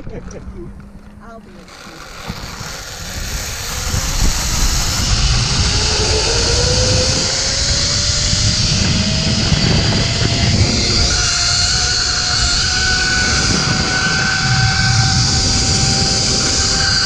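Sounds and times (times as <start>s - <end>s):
wind buffeting microphone: 0.0s - 17.0s
zip line pulley whirring whine: 0.7s - 17.0s.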